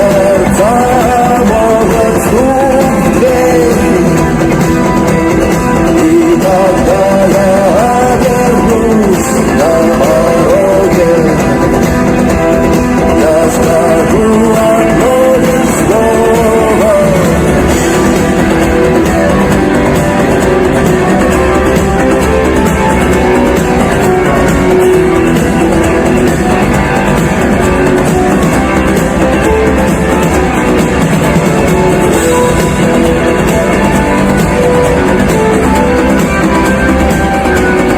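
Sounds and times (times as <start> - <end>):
bending guitar melody: 0.0 - 37.9
rock band playing: 0.0 - 37.9.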